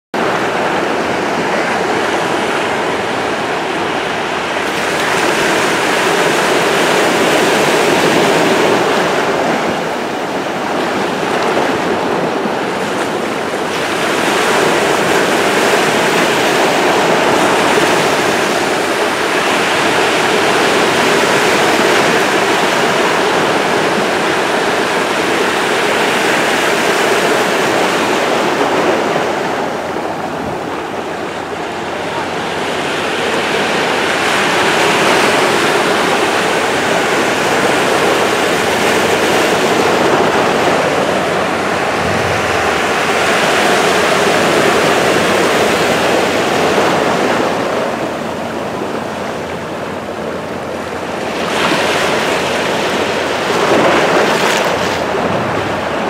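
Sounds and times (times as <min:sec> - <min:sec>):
waves breaking on shore: 0:00.2 - 0:56.0.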